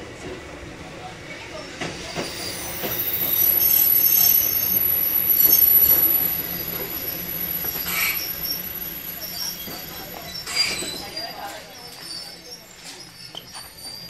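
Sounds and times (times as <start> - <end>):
rail rumble: 0.0 - 14.0
train wheels squealing: 1.5 - 14.0.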